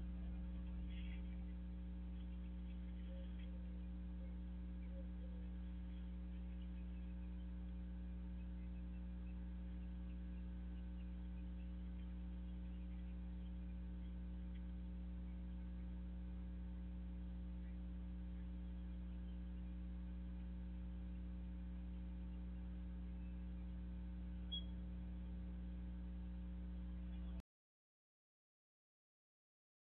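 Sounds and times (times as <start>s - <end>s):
electrical mains hum: 0.0s - 27.4s.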